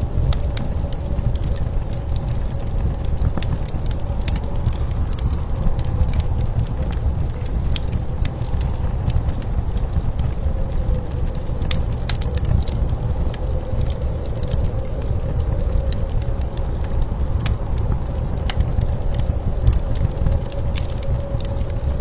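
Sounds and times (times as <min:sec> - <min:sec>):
blizzard wind rumbling: 0:00.0 - 0:22.0
wood fire crackling: 0:00.0 - 0:22.0.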